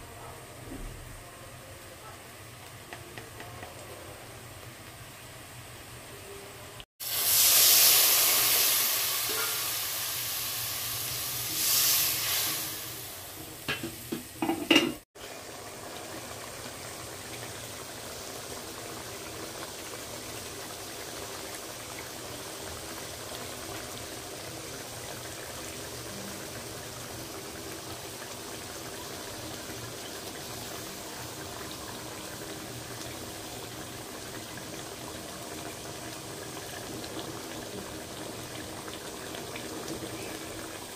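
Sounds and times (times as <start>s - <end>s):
oil sizzling in wok: 0.5s - 40.9s
sauce simmering: 1.9s - 13.5s, 15.1s - 40.9s.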